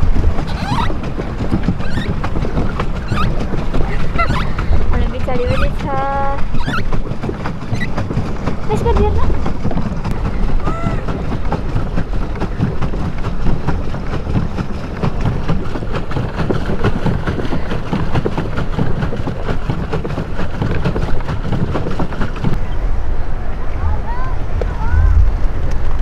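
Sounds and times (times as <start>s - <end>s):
water splashing and churning: 0.0s - 26.0s
wind buffeting microphone: 0.0s - 26.0s.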